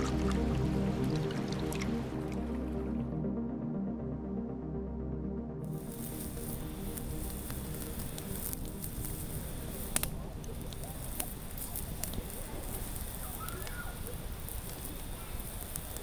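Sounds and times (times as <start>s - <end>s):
fire crackling and popping: 0.0s - 3.1s, 5.7s - 16.0s.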